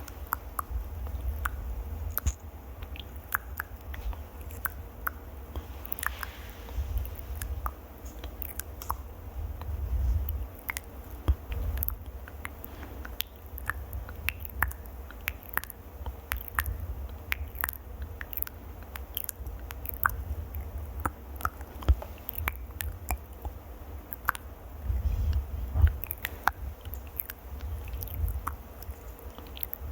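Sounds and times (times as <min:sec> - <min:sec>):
sharp clicks at microphone: 0:00.0 - 0:06.4, 0:07.0 - 0:29.9
low handling rumble: 0:00.0 - 0:29.9.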